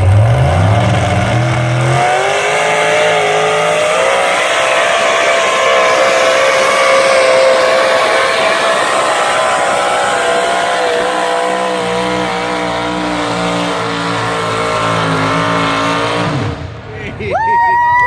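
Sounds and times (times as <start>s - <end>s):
tractor engine revving: 0.0s - 17.2s.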